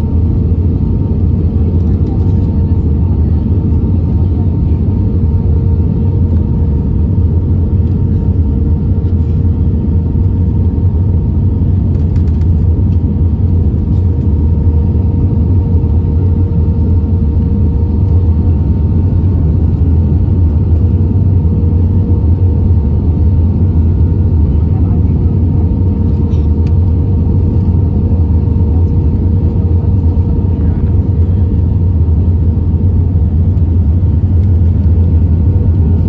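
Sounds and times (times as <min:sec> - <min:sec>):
jet engine and airflow rumble: 0:00.0 - 0:36.0
steady cabin hum: 0:00.0 - 0:36.0.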